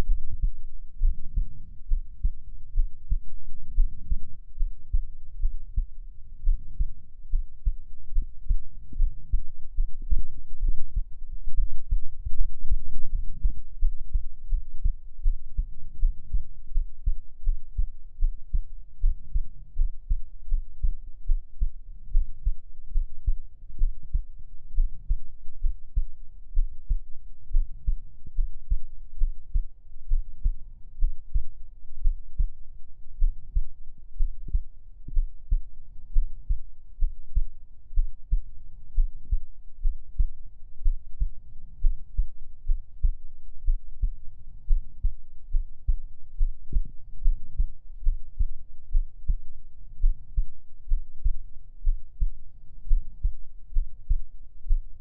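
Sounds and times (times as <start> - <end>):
heartbeat thuds: 0.0 - 55.0.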